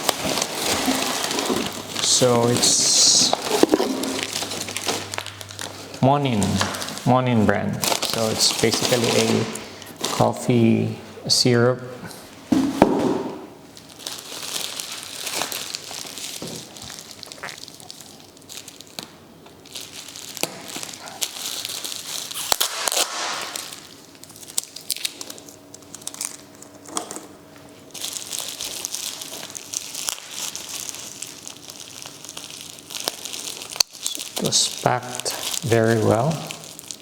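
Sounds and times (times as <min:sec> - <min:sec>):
packaging crinkling: 0:00.0 - 0:10.5, 0:13.6 - 0:37.0.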